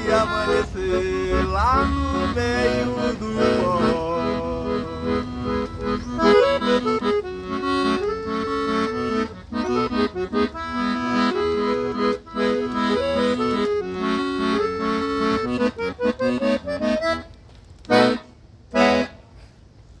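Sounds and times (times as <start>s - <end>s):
accordion melody: 0.0s - 19.3s.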